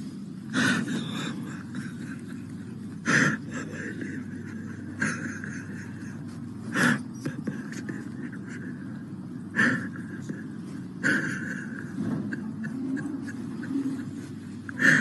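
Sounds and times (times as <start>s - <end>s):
steady low hum: 0.0s - 15.0s
man's strained breath sounds: 0.5s - 2.2s, 3.0s - 15.0s.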